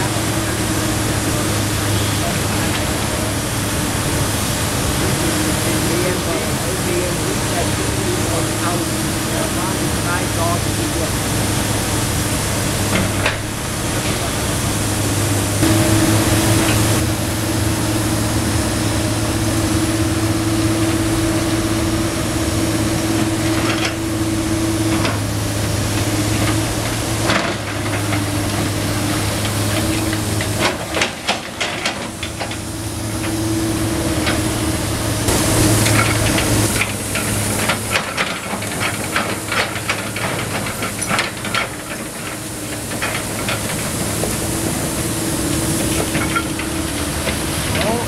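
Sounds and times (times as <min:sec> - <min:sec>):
excavator diesel engine running: 0:00.0 - 0:48.0
water hose spraying: 0:00.0 - 0:48.0.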